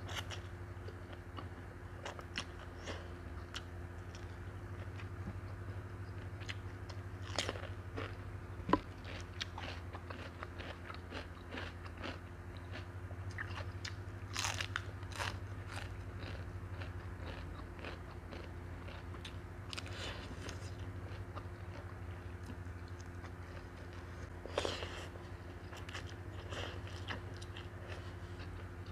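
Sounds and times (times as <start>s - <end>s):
steady low hum: 0.0s - 28.9s
person chewing crunchy food: 0.1s - 28.9s.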